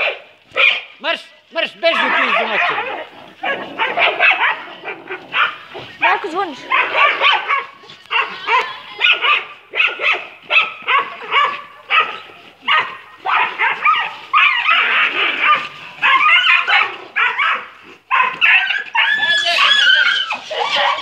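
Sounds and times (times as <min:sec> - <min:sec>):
dog barking: 0:00.0 - 0:01.0, 0:01.9 - 0:21.0.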